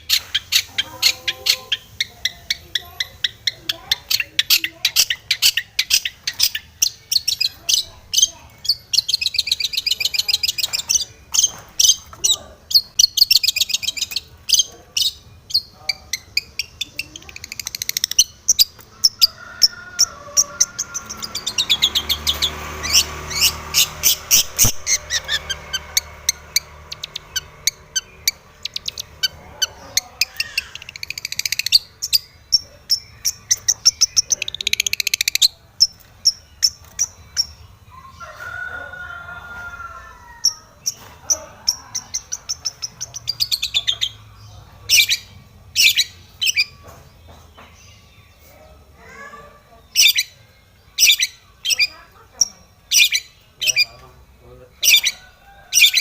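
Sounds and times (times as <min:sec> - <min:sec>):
bird warbled phrases: 0:00.0 - 0:46.8, 0:48.4 - 0:56.0
bird harsh chattering song: 0:00.0 - 0:56.0.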